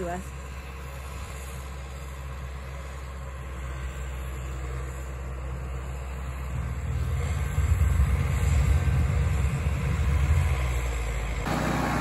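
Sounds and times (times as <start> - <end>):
distant tractor engine humming: 0.0 - 12.0.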